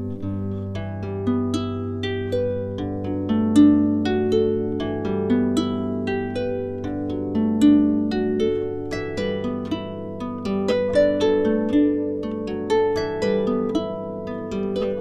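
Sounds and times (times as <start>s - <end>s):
plucked harp-like music: 0.0s - 15.0s.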